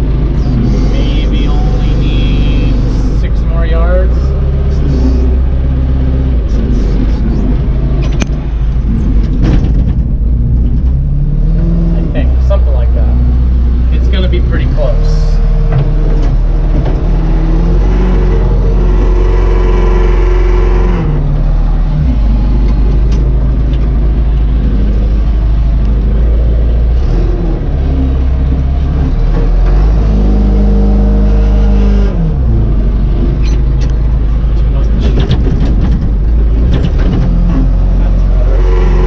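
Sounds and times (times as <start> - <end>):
truck engine accelerating: 0.0 - 39.0.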